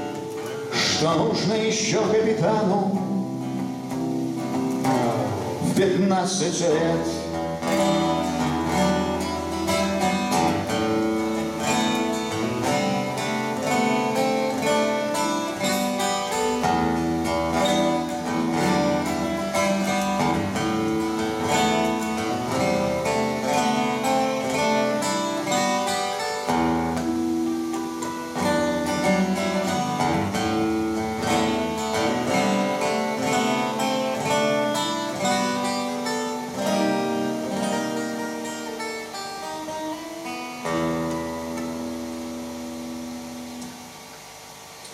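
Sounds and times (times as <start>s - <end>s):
acoustic guitar strumming: 0.0s - 44.9s.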